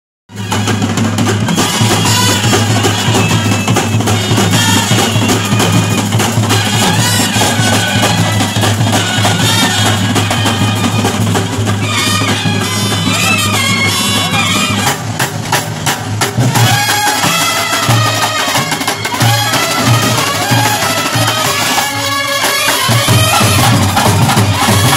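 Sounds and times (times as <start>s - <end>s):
brass band playing: 0.3s - 24.9s
snare and bass drums: 0.3s - 24.9s.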